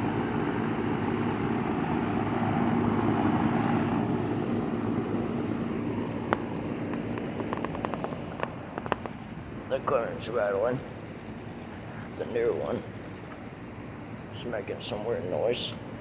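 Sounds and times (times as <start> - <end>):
air conditioner units droning: 0.0 - 16.0.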